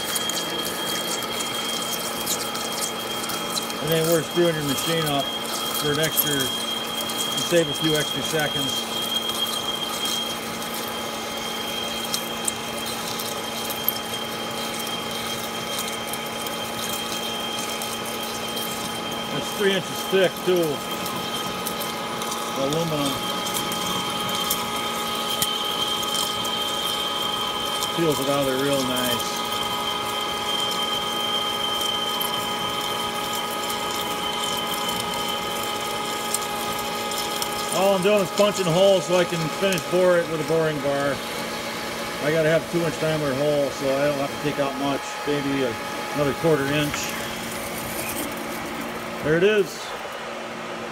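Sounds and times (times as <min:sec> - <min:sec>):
coolant hiss: 0:00.0 - 0:50.9
lathe drilling metal with whine: 0:00.0 - 0:50.9.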